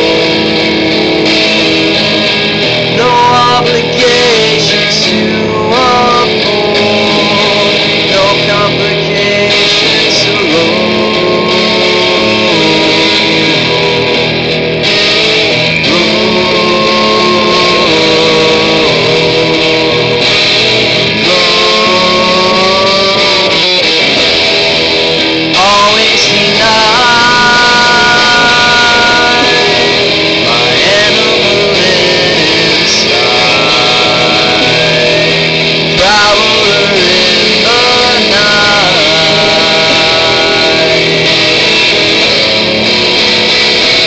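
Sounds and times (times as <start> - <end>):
loud band music with guitar: 0.0 - 44.0.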